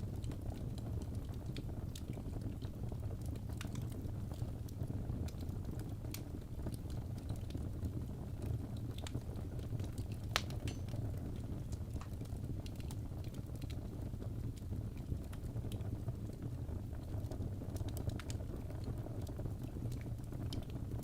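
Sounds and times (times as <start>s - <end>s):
fire crackling and popping: 0.0s - 21.0s
fire rumbling: 0.0s - 21.0s.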